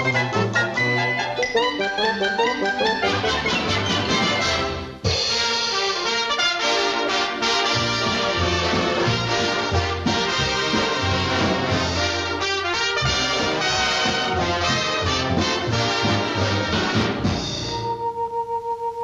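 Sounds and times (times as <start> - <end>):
brass-led orchestral music: 0.0 - 18.0.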